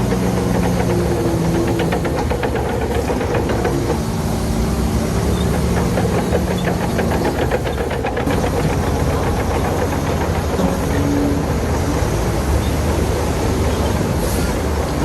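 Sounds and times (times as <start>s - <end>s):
bulldozer diesel engine under load: 0.0s - 15.0s
rapid clatter: 0.0s - 15.0s.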